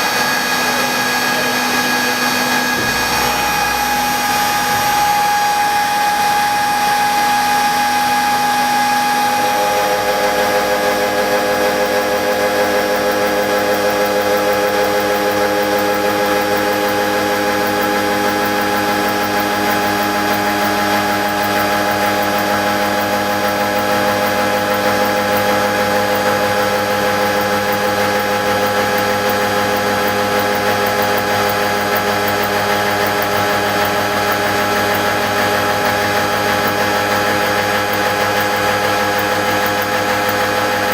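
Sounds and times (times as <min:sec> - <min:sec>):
milling machine whine: 0:00.0 - 0:40.9.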